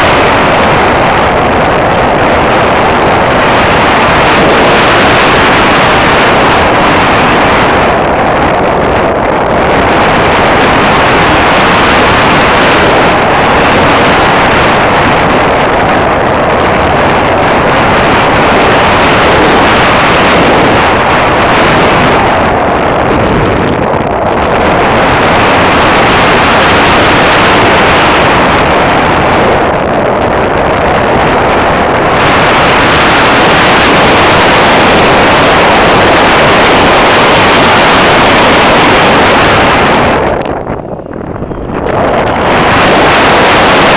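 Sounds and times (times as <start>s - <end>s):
wind and propeller noise: 0.0s - 43.9s.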